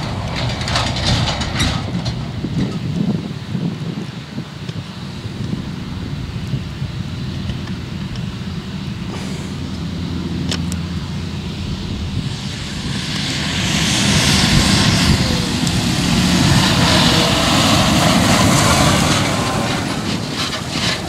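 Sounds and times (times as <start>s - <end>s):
tractor engine passing: 0.0s - 3.5s, 5.6s - 21.0s.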